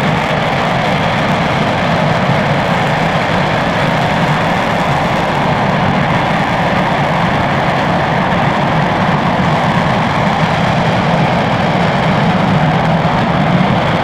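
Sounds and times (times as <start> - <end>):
rocket engine firing: 0.0 - 14.0.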